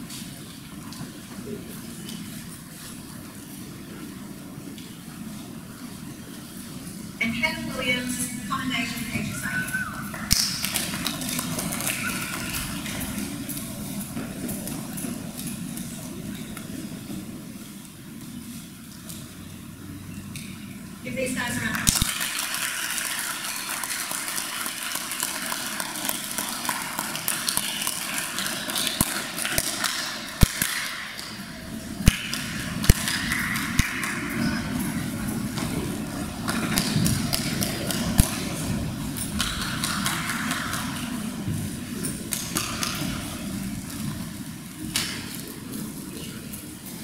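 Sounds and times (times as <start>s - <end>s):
footsteps: 0.0s - 19.3s, 21.8s - 47.0s.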